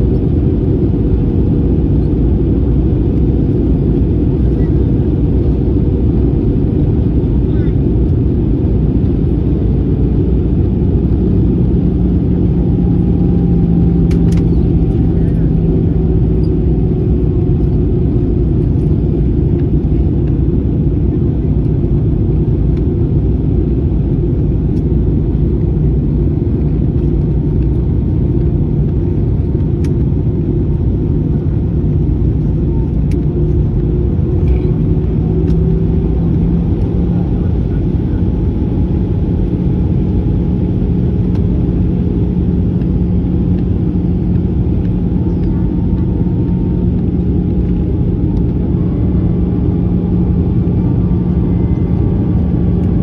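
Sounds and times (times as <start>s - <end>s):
aircraft cabin engine rumble: 0.0s - 53.0s
constant cabin hum: 0.0s - 53.0s.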